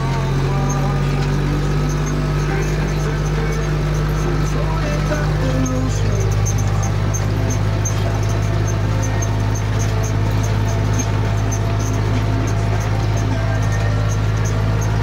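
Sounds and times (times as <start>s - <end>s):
light high ticking: 0.0s - 15.0s
tractor diesel engine running: 0.0s - 15.0s.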